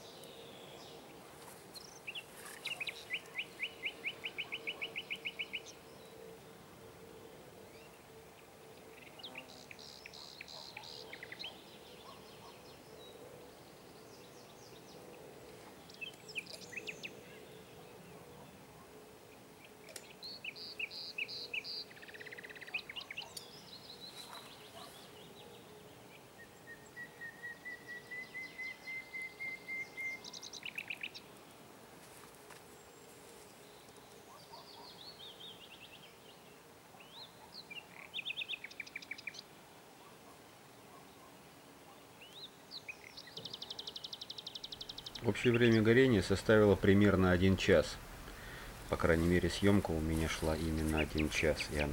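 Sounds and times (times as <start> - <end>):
songbirds singing: 0.0 - 31.7, 32.4 - 51.9.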